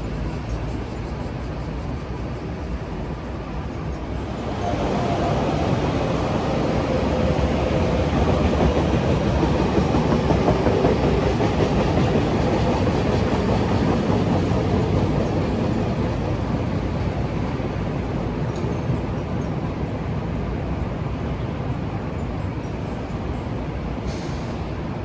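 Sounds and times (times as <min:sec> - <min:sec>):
train running on rails: 0:00.0 - 0:25.0.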